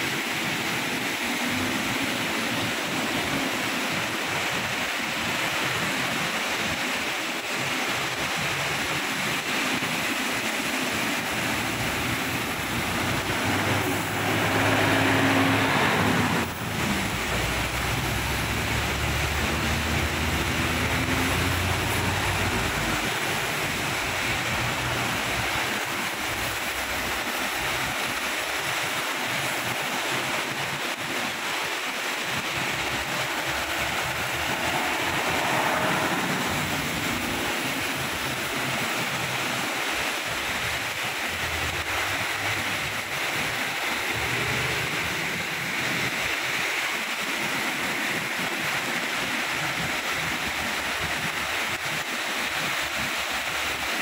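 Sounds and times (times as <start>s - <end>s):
road traffic rumble: 0.0s - 48.5s
heavy rain: 0.0s - 54.0s.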